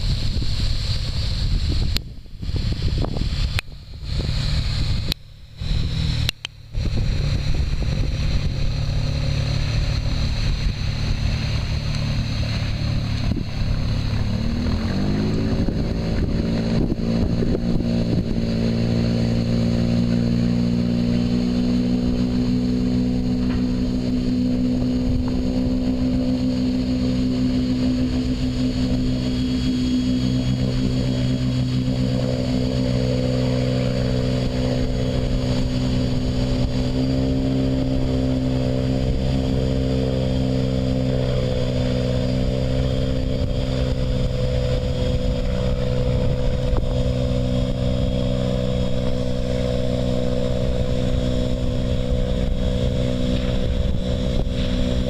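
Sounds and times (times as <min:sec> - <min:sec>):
boat engines running: 0:00.0 - 0:55.0
wind rumble on microphone: 0:00.0 - 0:55.0.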